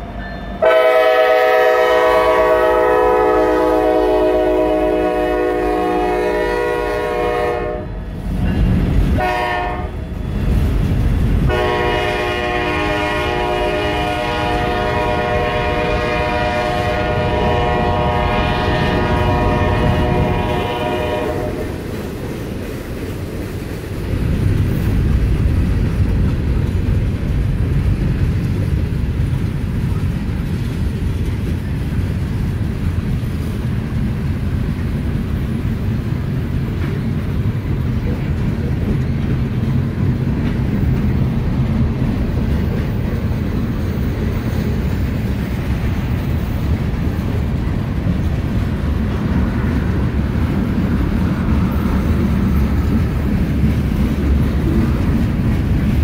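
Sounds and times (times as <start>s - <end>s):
freight train cars rumbling past: 0.0s - 56.0s.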